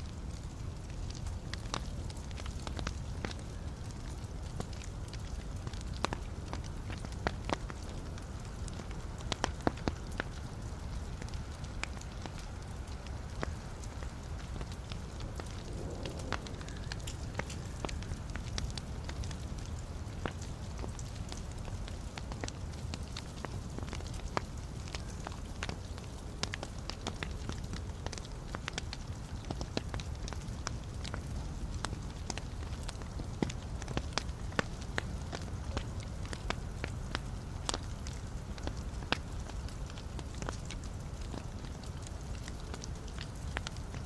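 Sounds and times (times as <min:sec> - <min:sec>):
fire low rumble: 0:00.0 - 0:44.0
logs crackling and popping: 0:00.0 - 0:44.0.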